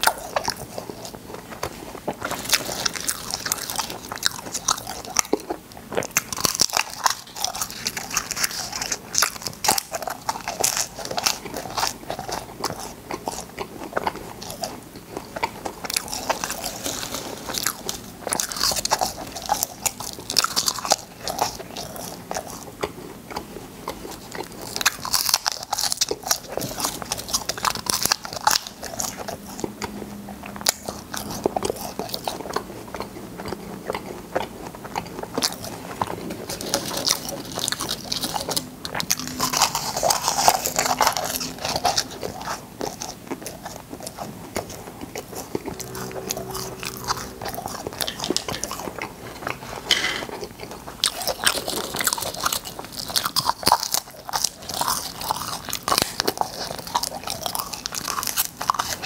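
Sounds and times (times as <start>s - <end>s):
crunching and chewing candy: 0.0s - 59.0s.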